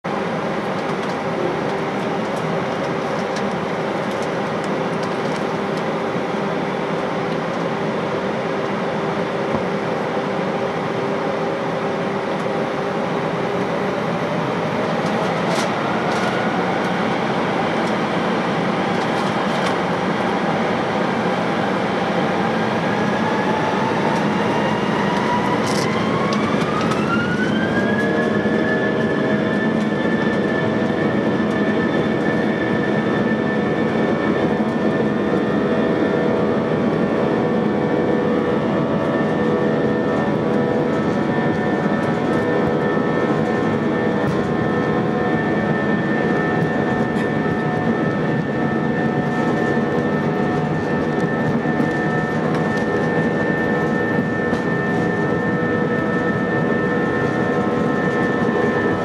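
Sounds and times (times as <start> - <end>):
jet engines rushing with whine: 0.0 - 59.0.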